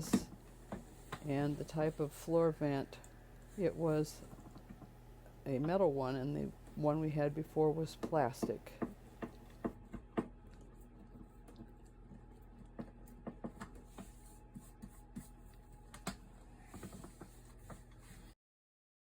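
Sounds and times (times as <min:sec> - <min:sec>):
low steady hum: 0:00.0 - 0:18.4.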